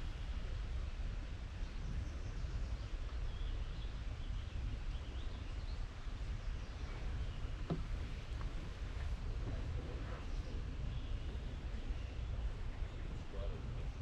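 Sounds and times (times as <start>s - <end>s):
low microphone rumble: 0.0s - 14.0s
songbird chirps: 1.6s - 14.0s.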